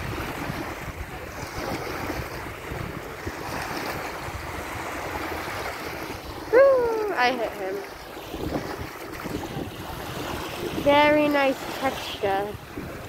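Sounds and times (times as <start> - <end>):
waves washing on beach: 0.0 - 13.0
wind on microphone: 0.0 - 13.0.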